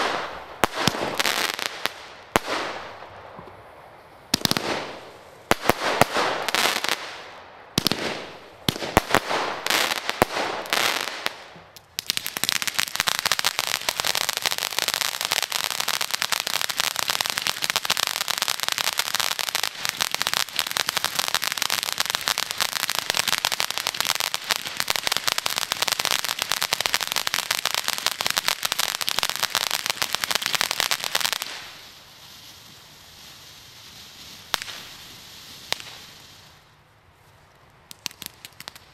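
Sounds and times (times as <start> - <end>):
fireworks crackling: 0.0 - 36.9, 37.8 - 38.9.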